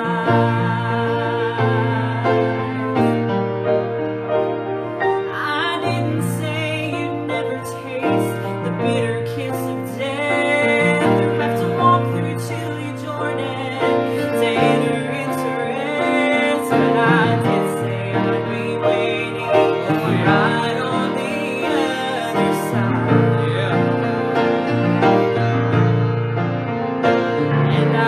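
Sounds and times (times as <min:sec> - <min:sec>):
woman singing with vibrato: 0:00.0 - 0:03.4, 0:05.1 - 0:25.1, 0:27.4 - 0:28.0
piano accompaniment: 0:00.0 - 0:28.0.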